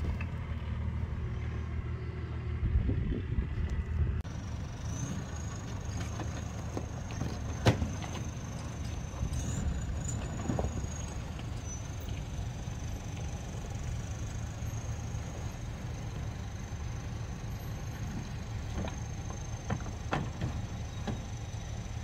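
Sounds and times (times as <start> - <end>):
vehicle engine at low revs: 0.0 - 22.0.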